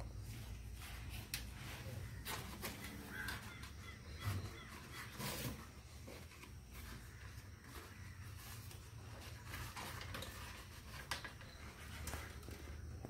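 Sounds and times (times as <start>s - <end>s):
leaves rustling and crinkling: 0.0s - 13.0s.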